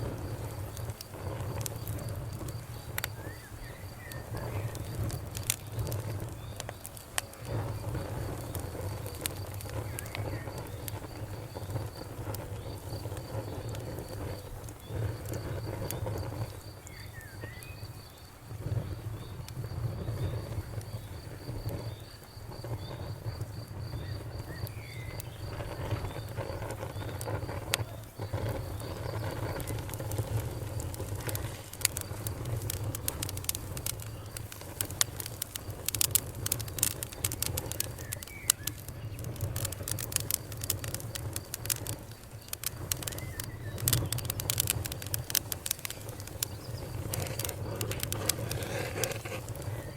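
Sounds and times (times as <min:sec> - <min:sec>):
wood fire crackling: 0:00.0 - 0:49.9
insect trilling: 0:00.1 - 0:18.3, 0:19.7 - 0:49.9.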